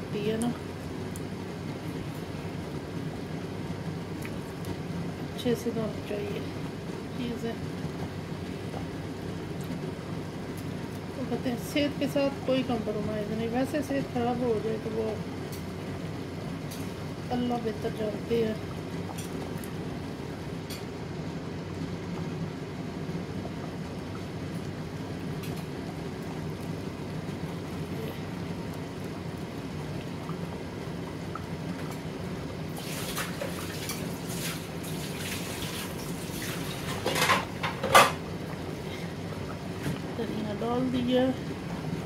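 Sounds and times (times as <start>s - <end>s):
curry bubbling in a pot: 0.6s - 37.6s, 38.2s - 42.0s.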